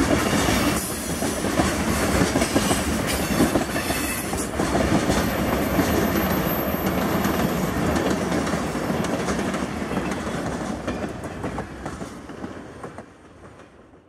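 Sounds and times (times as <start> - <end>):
train wheels rushing on rails: 0.0 - 14.0.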